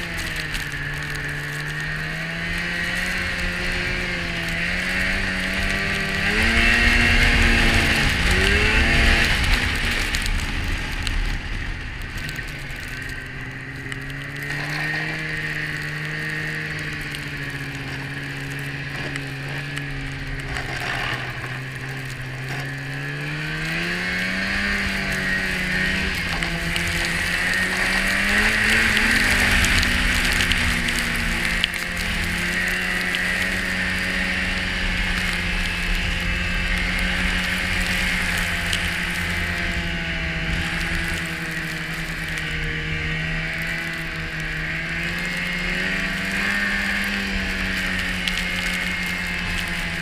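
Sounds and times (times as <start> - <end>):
snowmobile engine revving: 0.0 - 50.0.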